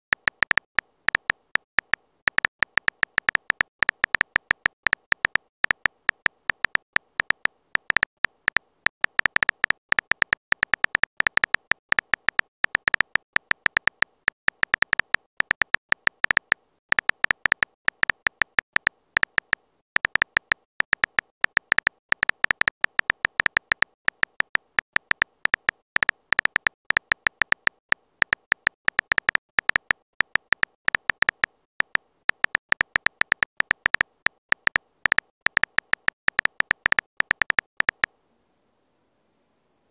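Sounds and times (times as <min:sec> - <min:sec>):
phone keyboard tap clicks: 0:00.1 - 0:38.1.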